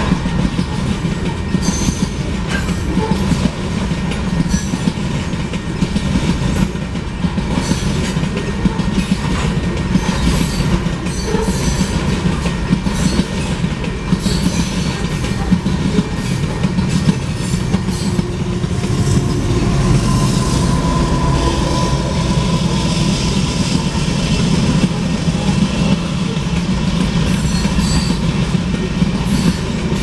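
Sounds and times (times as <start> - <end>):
wheels clacking over rail joints: 0.0 - 21.3, 23.6 - 30.0
freight train rumbling: 0.0 - 30.0.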